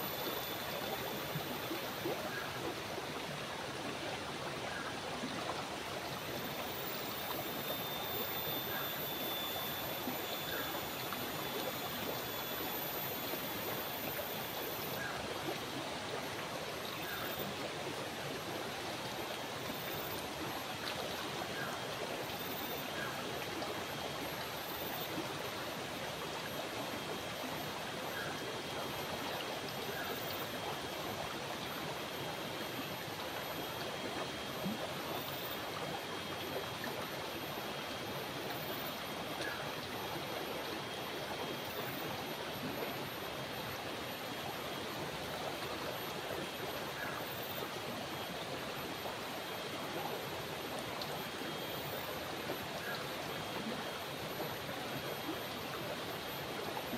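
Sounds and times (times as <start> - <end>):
stream flowing over rocks: 0.0 - 56.9.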